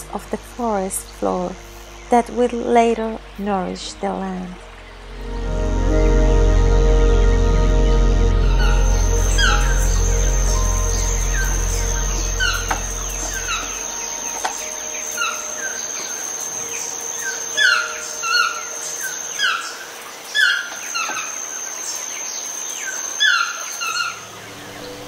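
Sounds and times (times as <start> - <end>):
steady high whine: 0.0 - 20.3
soft background music: 0.0 - 20.6, 24.2 - 25.0.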